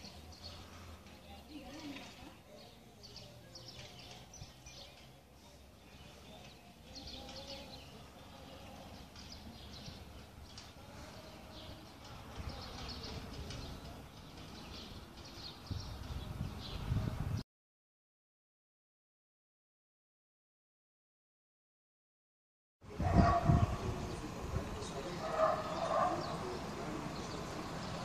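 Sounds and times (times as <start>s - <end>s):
small birds chirping: 0.0s - 17.4s, 23.0s - 28.0s.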